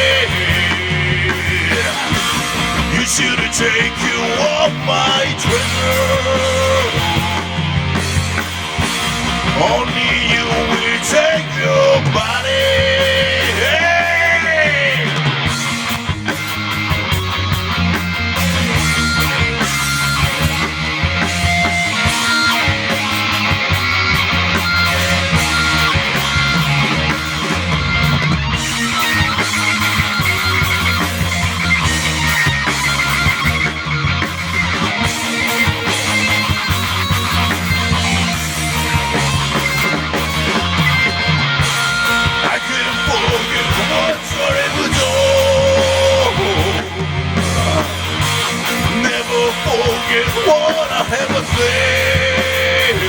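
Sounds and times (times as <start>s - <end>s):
rock band playing instrumental: 0.0s - 53.0s.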